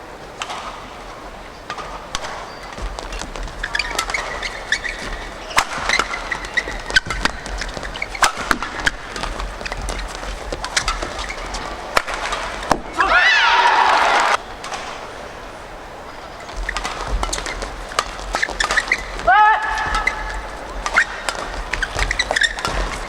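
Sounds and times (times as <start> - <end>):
shoes squeaking on court floor: 0.3 - 13.4, 14.1 - 23.0
rackets hitting shuttlecock: 0.4 - 13.4, 14.1 - 23.0.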